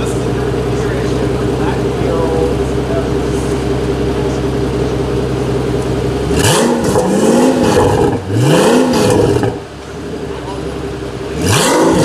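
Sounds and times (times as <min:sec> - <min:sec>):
sports car engine idling and revving: 0:00.0 - 0:12.0.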